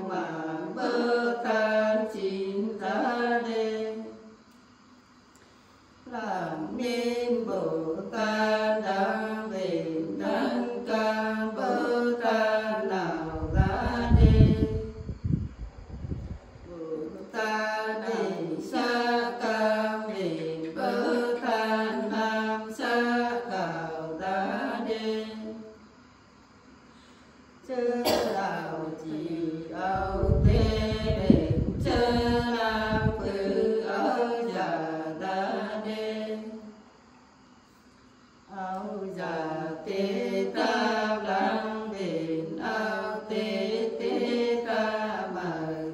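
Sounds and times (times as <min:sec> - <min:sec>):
woman singing unaccompanied: 0:00.0 - 0:04.3, 0:06.0 - 0:15.4, 0:16.1 - 0:25.8, 0:27.6 - 0:36.8, 0:38.5 - 0:45.9.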